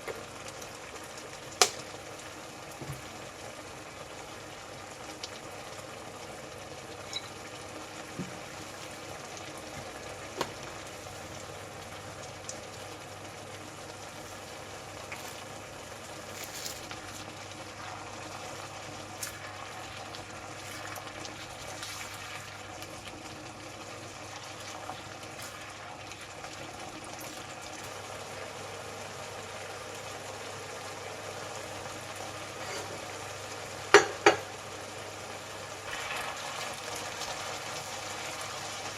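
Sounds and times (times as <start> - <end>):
food bubbling and sizzling: 0.0 - 38.9.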